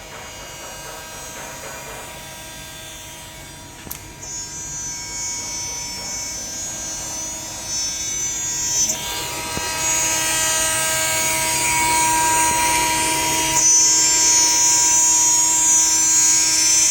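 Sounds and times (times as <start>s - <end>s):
router spindle whine: 0.0s - 16.9s.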